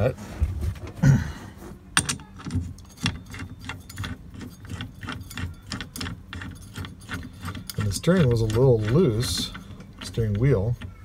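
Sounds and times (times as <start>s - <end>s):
metal nut clicking and jangling: 2.0s - 11.0s.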